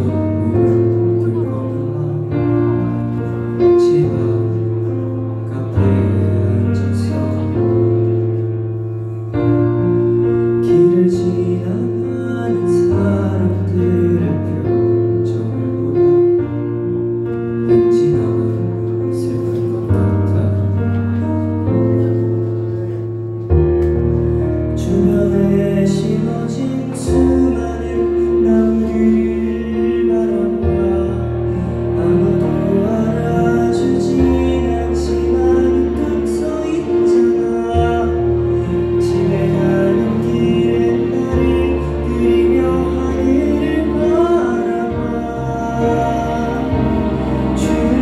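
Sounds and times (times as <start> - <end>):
man singing a slow ballad: 0.0 - 23.2, 24.3 - 48.0
sustained piano chords: 0.0 - 48.0.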